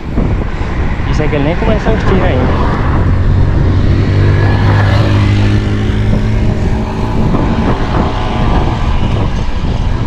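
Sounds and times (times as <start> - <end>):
road and wind noise: 0.0 - 10.0
vehicle engine droning: 0.0 - 10.0.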